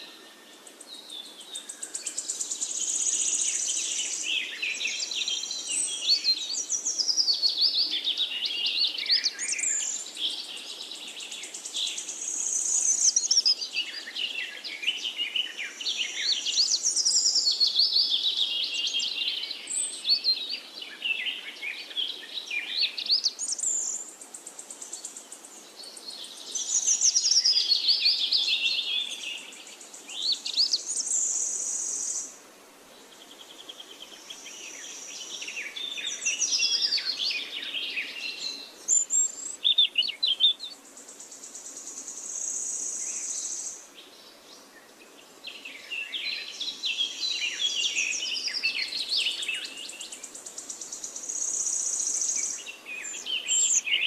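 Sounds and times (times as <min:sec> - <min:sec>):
birds singing in chorus: 0:00.0 - 0:54.0
faint steady hiss: 0:00.0 - 0:54.0.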